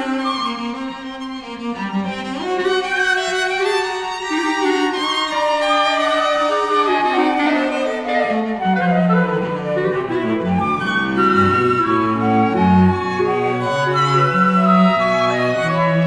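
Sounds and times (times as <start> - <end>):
cello: 0.0 - 16.0
violin: 0.0 - 16.0.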